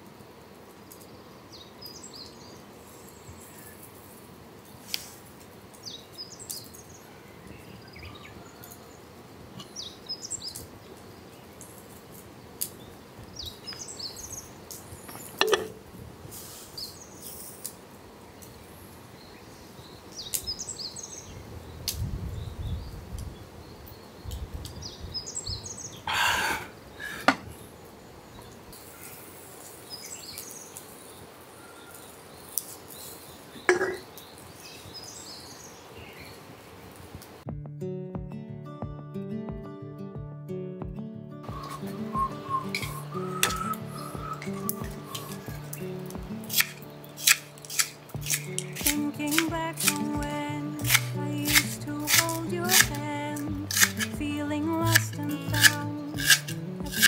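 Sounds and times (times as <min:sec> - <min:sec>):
small birds chirping: 0:00.8 - 0:37.1, 0:41.4 - 0:57.0.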